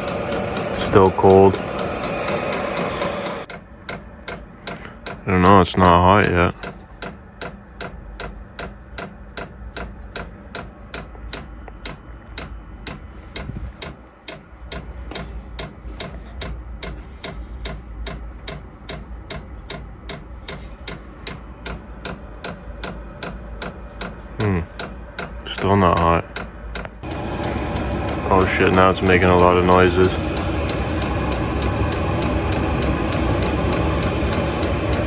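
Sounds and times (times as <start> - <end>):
fuel pump ticking: 0.0 - 35.0
heater humming: 0.0 - 35.0.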